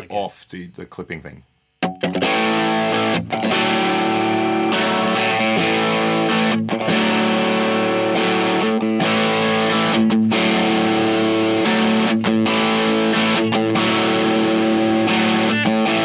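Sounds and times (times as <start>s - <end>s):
distorted electric guitar chords: 1.8s - 16.0s.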